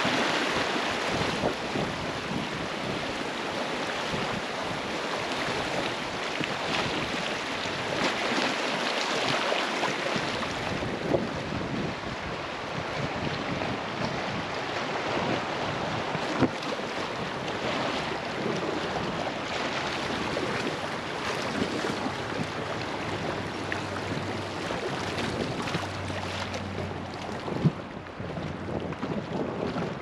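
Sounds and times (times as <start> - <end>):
wind buffeting microphone: 0.0 - 8.5, 9.2 - 30.0
river water rushing and splashing: 0.0 - 30.0.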